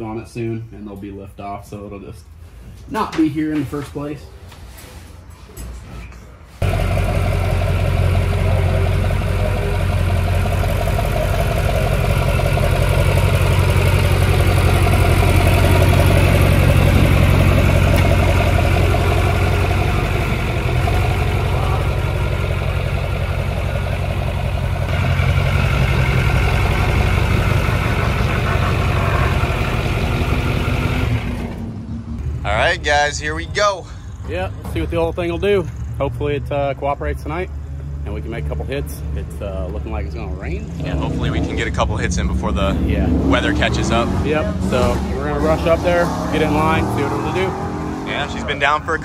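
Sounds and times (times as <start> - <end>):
diesel engine idling: 6.6 - 45.8, 46.4 - 49.0.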